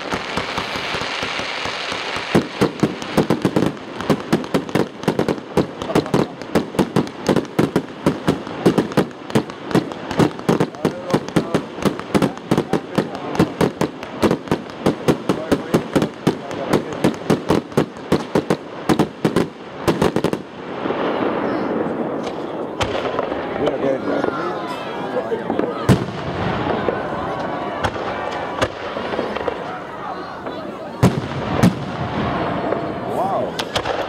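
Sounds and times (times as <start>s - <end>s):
firework bursts: 0.0s - 34.0s.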